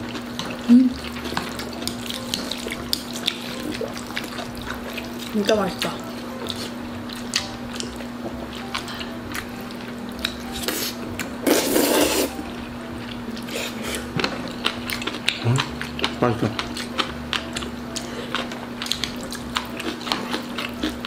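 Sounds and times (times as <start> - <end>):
chewing: 0.0 - 21.0
loud noisy eating sound: 0.0 - 21.0
steady low hum: 0.0 - 21.0.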